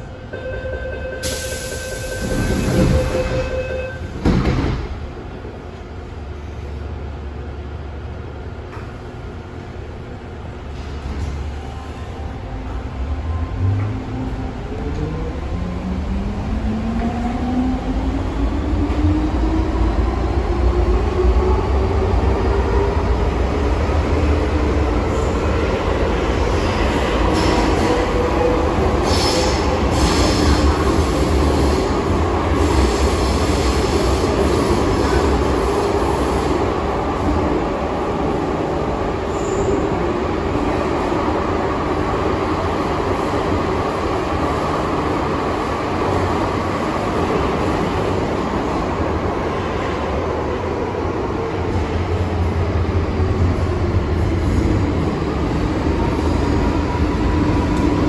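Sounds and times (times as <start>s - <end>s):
train wheels rumbling on rail: 1.2s - 58.0s.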